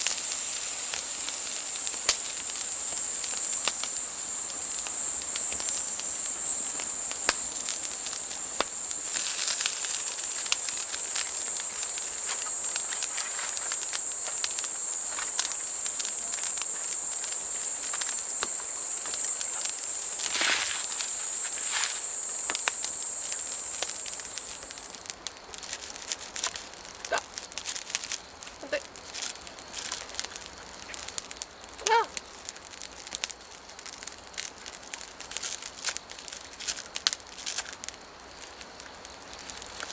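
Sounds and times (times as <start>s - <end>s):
insects trilling: 0.0s - 39.9s
light clicks and crackles: 0.0s - 39.9s.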